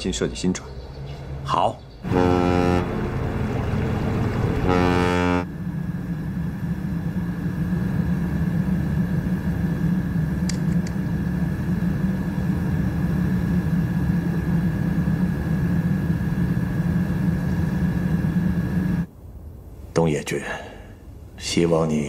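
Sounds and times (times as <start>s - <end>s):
ship engine low drone: 0.0s - 19.2s
faint high whine: 2.1s - 20.0s.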